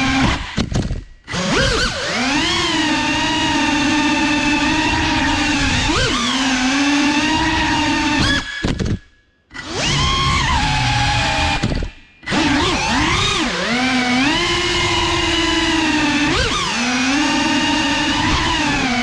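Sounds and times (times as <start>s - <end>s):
quadcopter motors whining: 0.0s - 8.8s, 9.5s - 19.0s.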